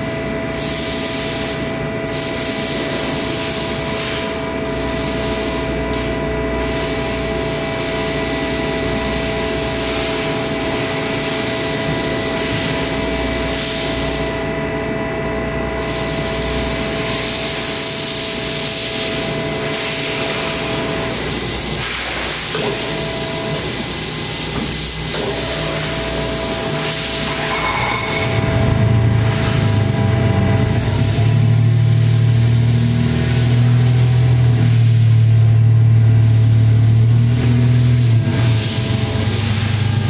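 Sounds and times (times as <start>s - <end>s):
machine whine: 0.0s - 40.0s.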